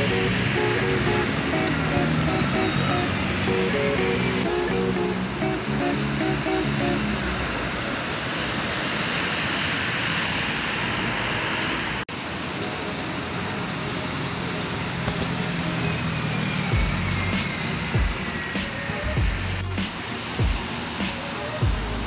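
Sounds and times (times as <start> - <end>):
bus engine running low: 0.0 - 22.0
tyres hissing on wet road: 0.0 - 22.0.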